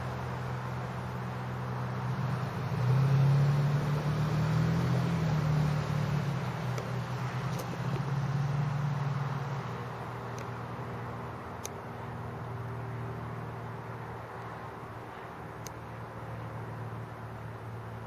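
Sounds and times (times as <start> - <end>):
propeller plane droning overhead: 0.0 - 18.0.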